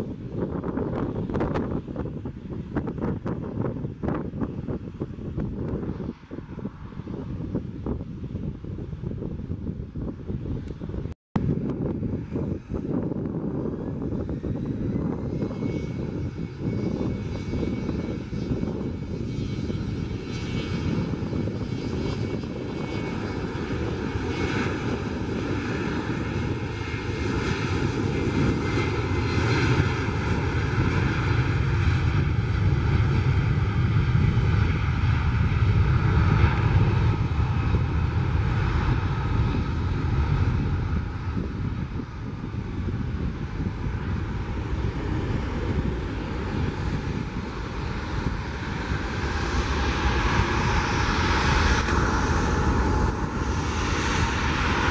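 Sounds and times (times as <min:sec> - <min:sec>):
jet engines whining and rumbling: 0:00.0 - 0:54.9.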